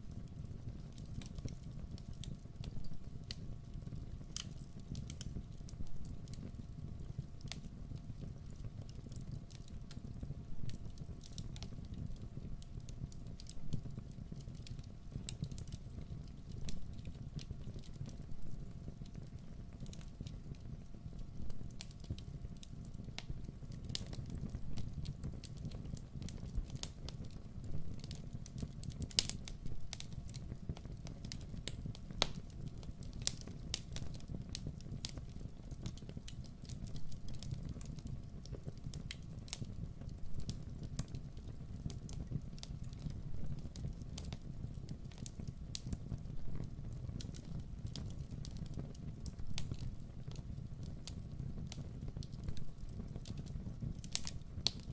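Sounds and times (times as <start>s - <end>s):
fire crackling and popping: 0.0s - 54.9s
fire flames rumbling: 0.1s - 54.9s.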